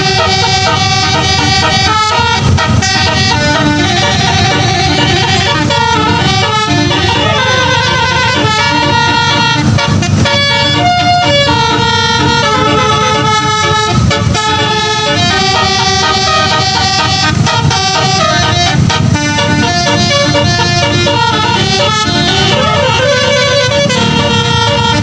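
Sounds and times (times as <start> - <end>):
bus air horn playing a tune: 0.0 - 25.0
low engine rumble: 0.0 - 25.0.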